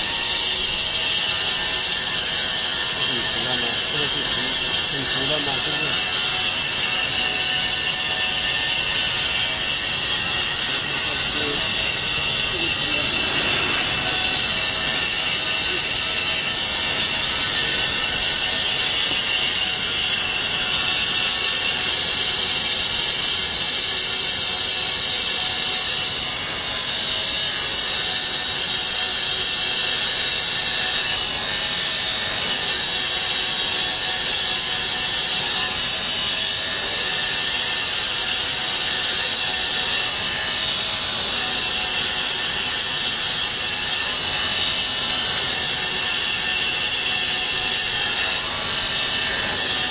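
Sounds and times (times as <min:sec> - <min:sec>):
foam cutting machine hiss: 0:00.0 - 0:49.9.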